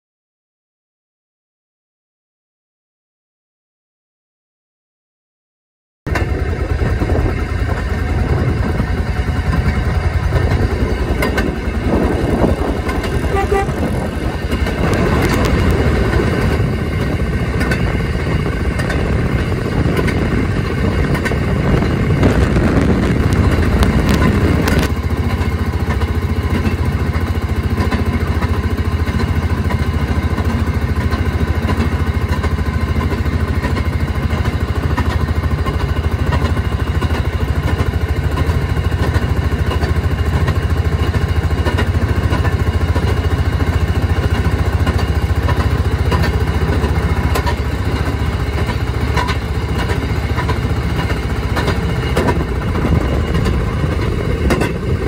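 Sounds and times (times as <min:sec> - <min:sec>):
rail motorcar engine running: 0:06.1 - 0:55.0
steel wheels clattering on rails: 0:06.1 - 0:55.0.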